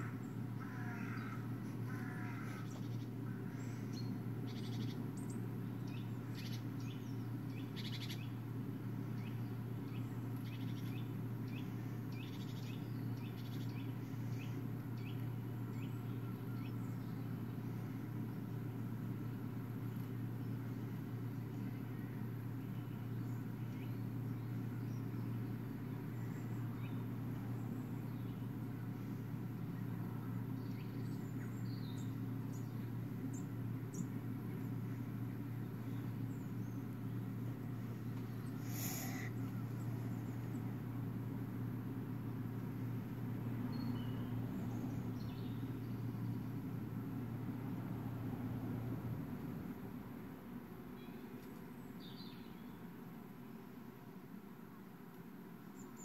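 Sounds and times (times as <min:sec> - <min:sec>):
songbirds chirping from speakers: 0:00.0 - 0:47.9, 0:49.2 - 0:56.0
steady low hum: 0:00.0 - 0:56.0.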